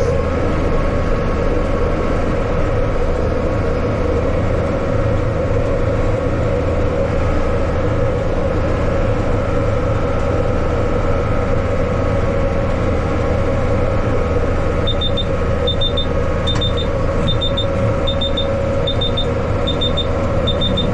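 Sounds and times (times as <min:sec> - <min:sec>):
faint engine whine: 0:00.0 - 0:20.9
tractor diesel engine running: 0:00.0 - 0:20.9.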